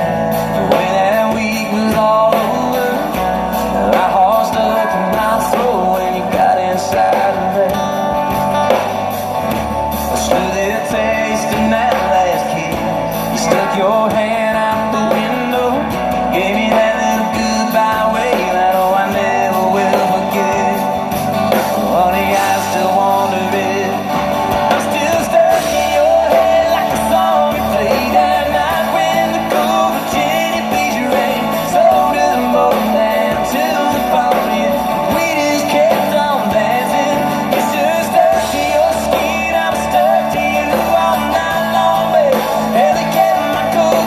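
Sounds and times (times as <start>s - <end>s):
live country-rock band: 0.0s - 44.0s
person singing: 0.0s - 44.0s.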